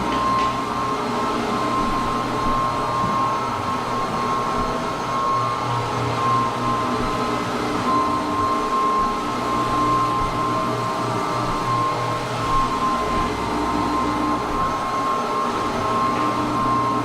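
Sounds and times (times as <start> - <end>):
floor buffer motor whining: 0.0 - 17.0.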